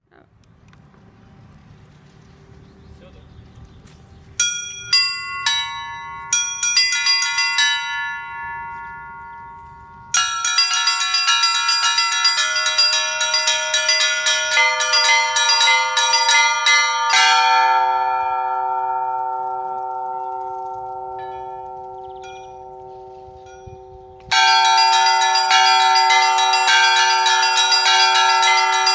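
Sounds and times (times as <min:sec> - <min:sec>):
church bells pealing: 0:04.2 - 0:28.9
low bell strike: 0:04.4 - 0:28.9
small high bells ringing: 0:04.4 - 0:28.9.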